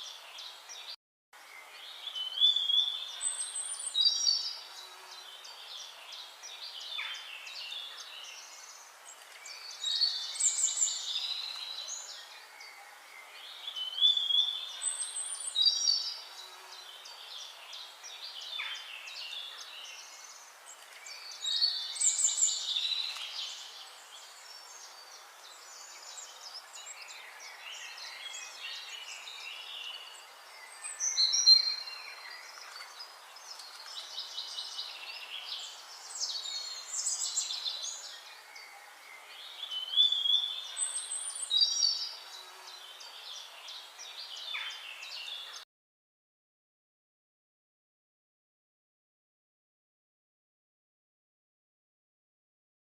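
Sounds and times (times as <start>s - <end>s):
faint steady hiss: 0.0s - 45.6s
songbirds singing and chirping: 0.0s - 45.7s.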